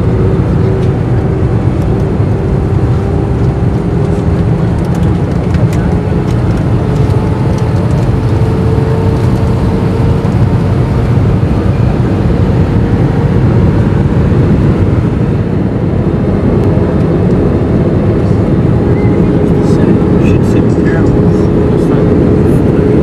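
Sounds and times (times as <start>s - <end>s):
airplane cabin engine noise: 0.0s - 23.0s.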